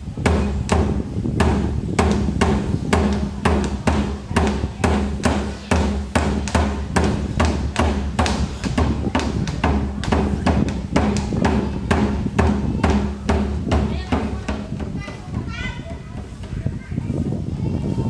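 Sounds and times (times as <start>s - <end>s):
music with drum beat and bass: 0.0s - 16.6s.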